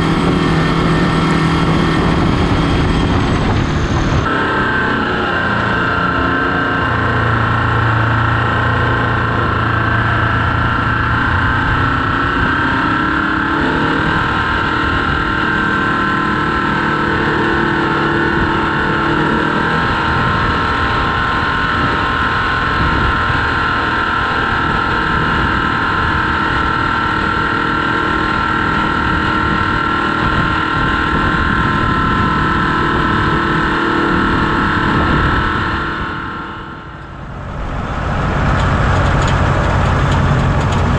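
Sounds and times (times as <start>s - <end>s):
steady whine: 0.0s - 40.9s
tractor diesel engine running: 0.0s - 40.9s.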